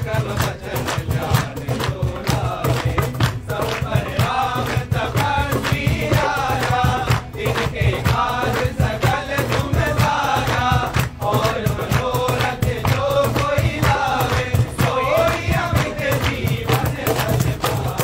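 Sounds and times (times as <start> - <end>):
acoustic guitar: 0.0 - 18.0
hand drum: 0.0 - 18.0
hands clapping in rhythm: 0.0 - 18.0
men singing in unison: 0.0 - 18.0.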